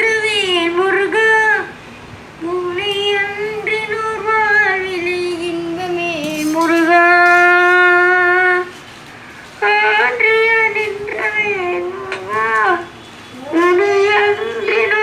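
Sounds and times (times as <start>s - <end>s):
boy singing: 0.0s - 1.8s, 2.4s - 8.7s, 9.6s - 15.0s.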